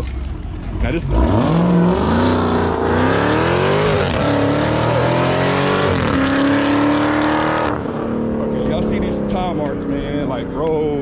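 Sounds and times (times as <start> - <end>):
car engine revving hard: 1.0 - 10.2.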